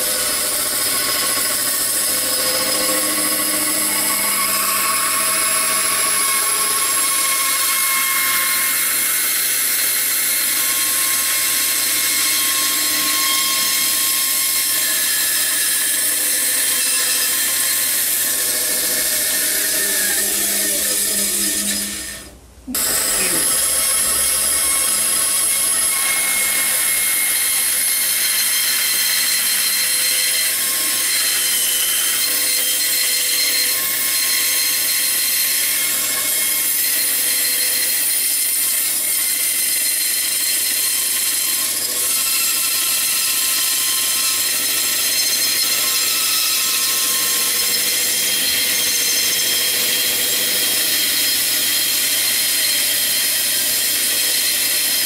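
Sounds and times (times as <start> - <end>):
band saw cutting wood: 0.0 - 55.0.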